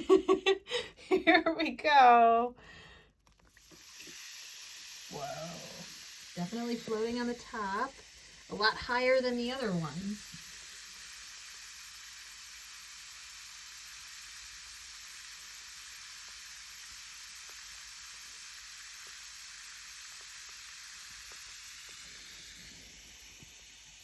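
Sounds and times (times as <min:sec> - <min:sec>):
bath bomb fizzing in water: 0:03.1 - 0:24.0.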